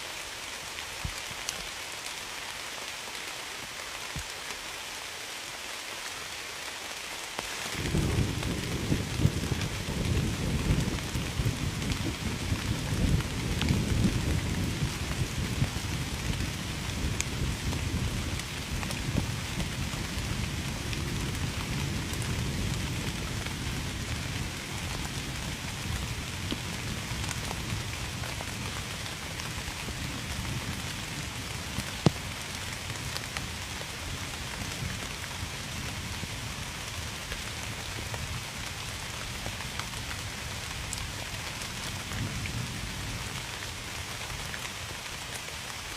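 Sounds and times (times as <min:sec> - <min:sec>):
steady rain falling: 0:00.0 - 0:45.9
raindrops ticking on a surface: 0:00.1 - 0:45.9.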